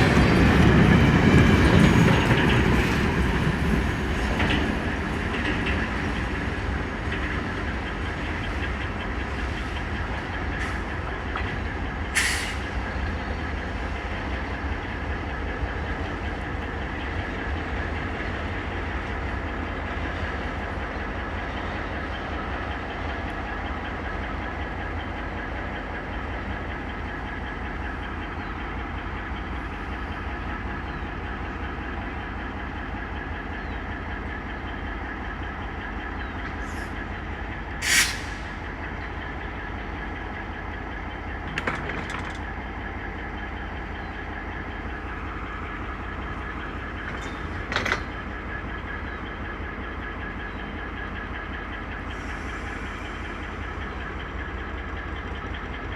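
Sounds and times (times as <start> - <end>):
train wheels rumbling: 0.0 - 55.9.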